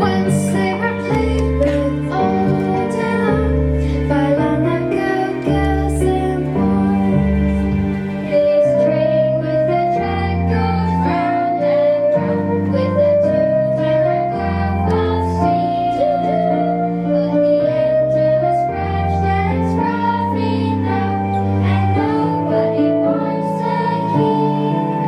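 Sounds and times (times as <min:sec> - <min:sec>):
children singing slow song: 0:00.0 - 0:25.0
instrumental accompaniment: 0:00.0 - 0:25.0.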